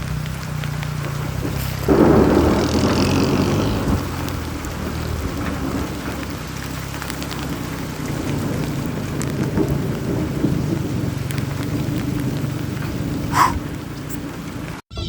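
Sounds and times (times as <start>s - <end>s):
roar of falling water: 0.0s - 14.8s.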